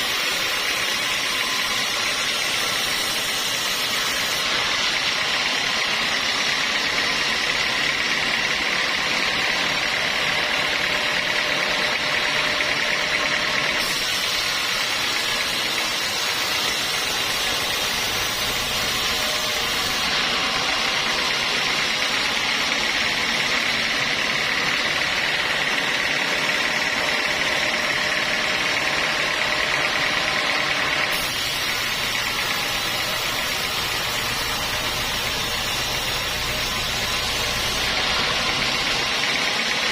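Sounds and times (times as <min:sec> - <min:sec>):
sawmill saw whining drone: 0:00.0 - 0:39.9.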